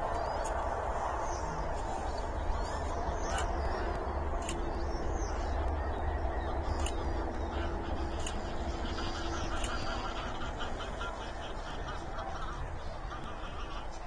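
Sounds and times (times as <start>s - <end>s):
birds calling: 0.0s - 14.0s
low rumble: 0.0s - 14.0s.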